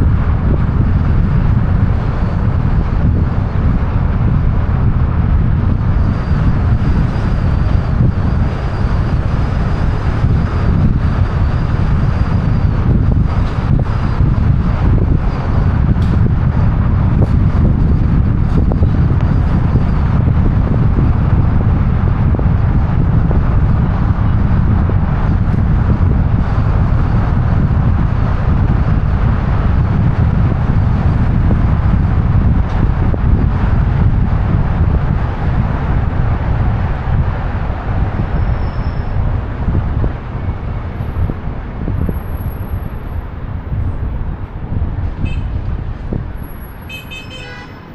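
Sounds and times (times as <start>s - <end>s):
road and traffic noise: 0.0s - 47.9s
wind rushing over microphone: 0.0s - 47.9s.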